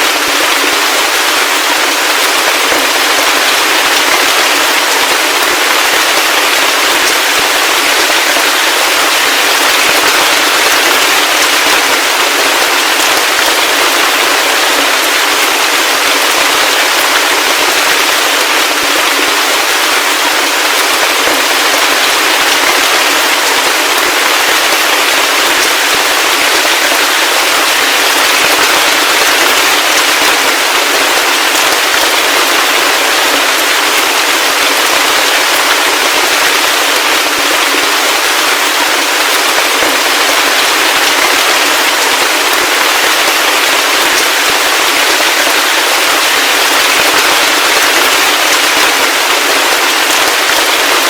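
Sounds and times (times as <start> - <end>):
heavy rain pattering: 0.0 - 51.0.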